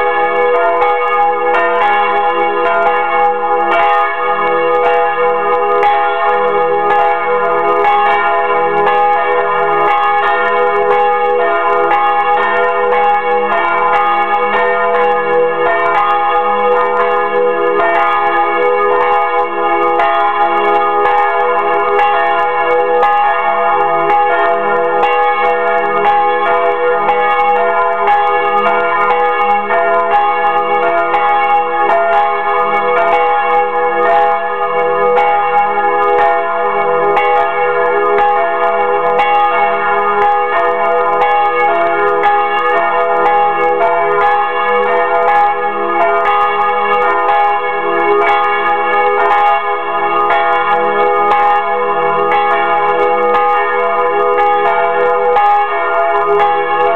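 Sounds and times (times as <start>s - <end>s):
church bells pealing: 0.0s - 56.9s.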